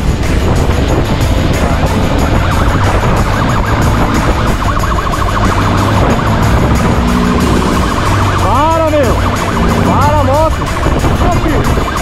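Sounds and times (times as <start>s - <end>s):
motorcycle engine running: 0.0s - 12.0s
police siren warbling: 1.6s - 12.0s.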